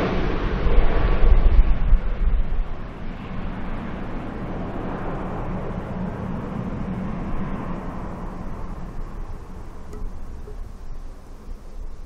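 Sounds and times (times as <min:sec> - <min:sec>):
turboprop aircraft propeller drone: 0:00.0 - 0:12.0.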